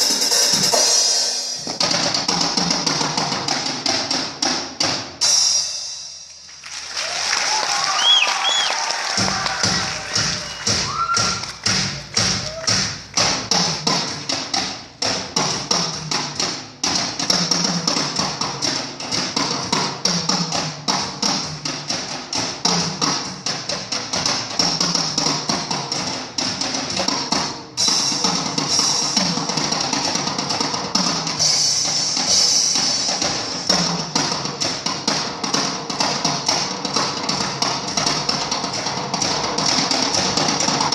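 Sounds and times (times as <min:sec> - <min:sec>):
fast drum solo: 0:00.0 - 0:06.2, 0:07.1 - 0:40.9.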